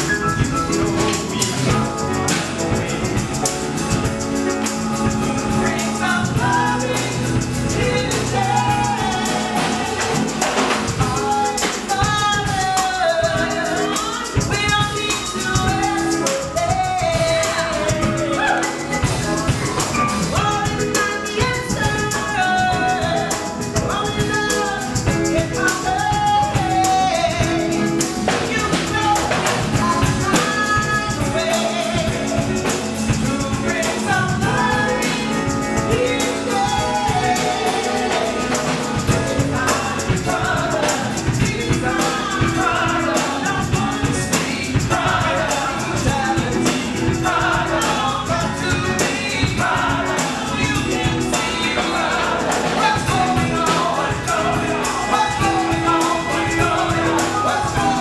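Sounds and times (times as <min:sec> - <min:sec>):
bass guitar: 0:00.0 - 0:58.0
drum kit beat: 0:00.0 - 0:58.0
group of people singing: 0:00.0 - 0:58.0
piano: 0:00.0 - 0:58.0
woman singing lead: 0:00.0 - 0:58.0.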